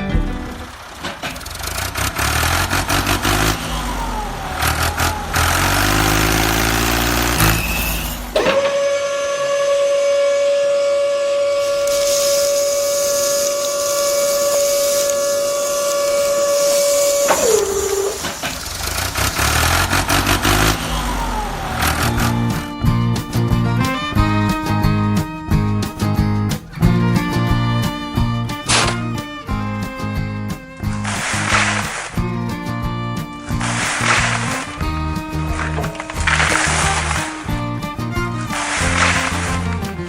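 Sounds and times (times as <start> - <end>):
tractor engine revving: 0.0 - 40.0.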